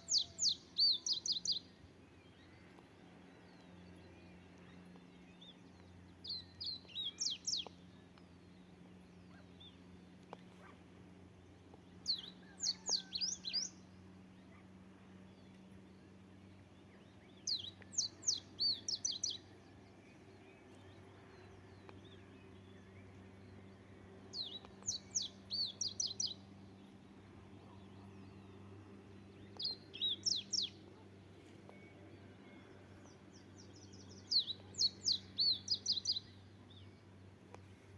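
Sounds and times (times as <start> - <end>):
faint low hum: 0.0 - 37.9
songbird chirping: 0.0 - 37.9.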